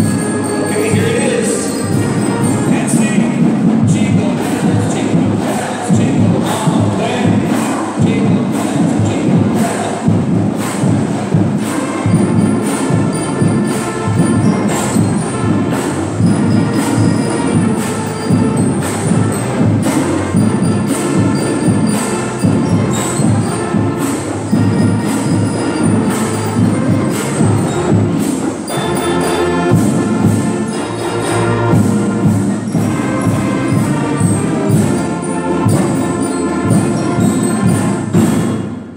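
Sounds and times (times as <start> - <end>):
concert band playing: 0.0 - 38.9
percussion strokes: 0.0 - 38.9
steady drum beat: 0.0 - 38.9.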